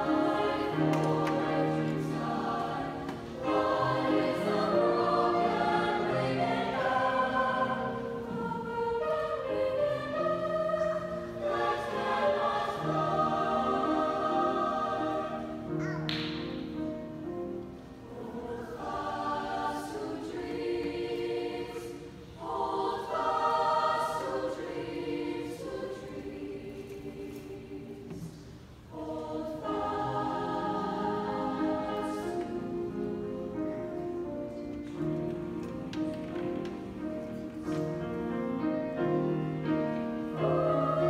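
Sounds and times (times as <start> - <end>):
choir singing in parts: 0.0 - 15.7, 16.4 - 41.0
piano accompaniment: 0.0 - 26.4, 28.9 - 41.0.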